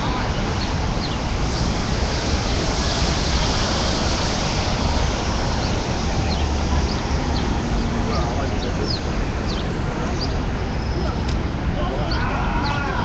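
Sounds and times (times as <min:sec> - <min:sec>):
city street noise: 0:00.0 - 0:13.0
wind rumbling on microphone: 0:00.0 - 0:13.0.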